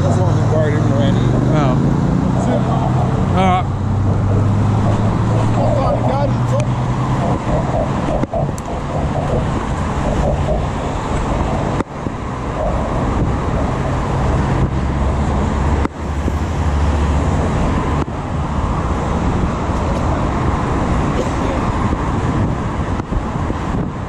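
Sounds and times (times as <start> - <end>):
deep low rumble: 0.0 - 24.0
road traffic: 0.0 - 24.0.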